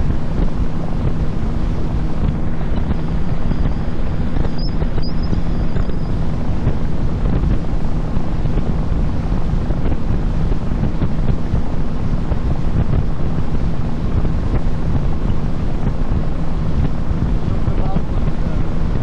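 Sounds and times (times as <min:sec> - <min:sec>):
boat motor running: 0:00.0 - 0:19.0
wind rushing over microphone: 0:00.0 - 0:19.0.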